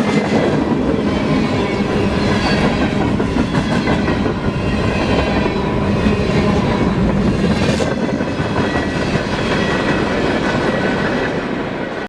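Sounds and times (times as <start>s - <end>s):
freight train passing: 0.0s - 12.0s.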